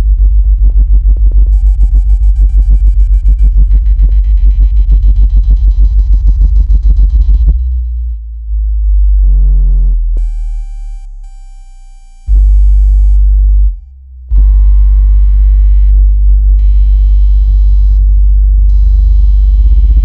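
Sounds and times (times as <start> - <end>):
deep synthesized bass tones: 0.0 - 20.0.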